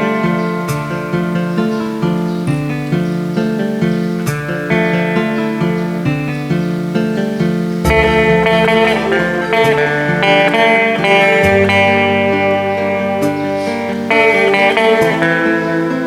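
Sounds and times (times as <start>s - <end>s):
guitar melody: 0.0s - 16.0s.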